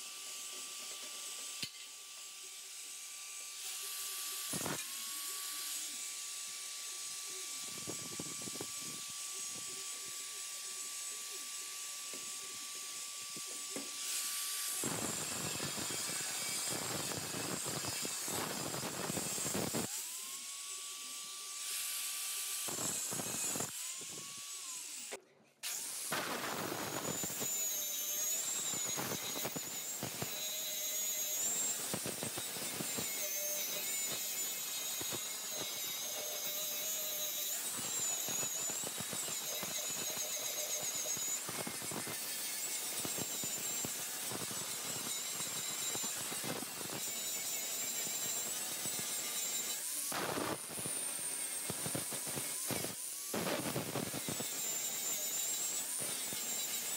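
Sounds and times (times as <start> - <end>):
angle grinder grinding steel: 0.0 - 56.9.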